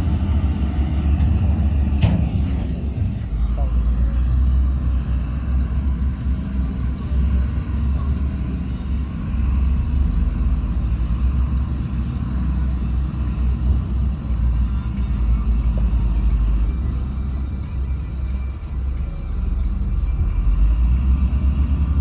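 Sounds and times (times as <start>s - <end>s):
diesel machinery rumbling: 0.0s - 22.0s.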